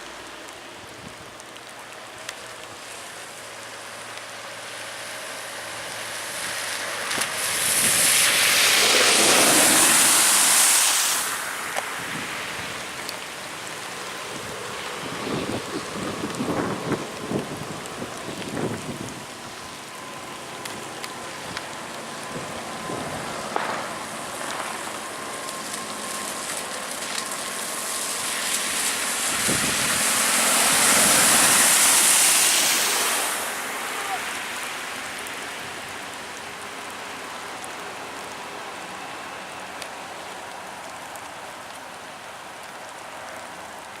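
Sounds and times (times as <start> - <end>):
car driving through flood water: 0.0 - 44.0
steady rain hiss: 0.0 - 44.0.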